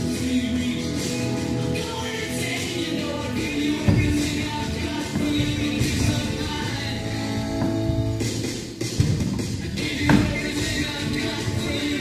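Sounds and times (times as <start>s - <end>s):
music with singing voices: 0.0s - 12.0s.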